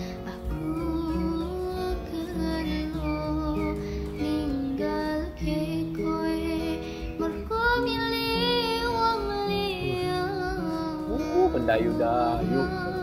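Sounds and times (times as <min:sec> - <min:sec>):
soft acoustic guitar: 0:00.0 - 0:13.0
woman singing slow song: 0:00.0 - 0:13.0.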